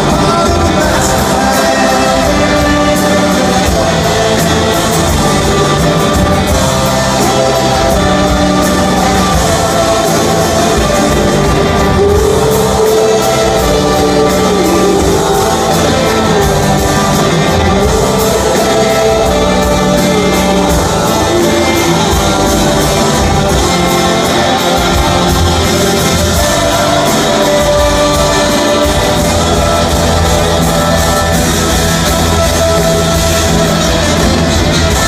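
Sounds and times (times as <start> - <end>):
live rock band playing: 0.0 - 35.0.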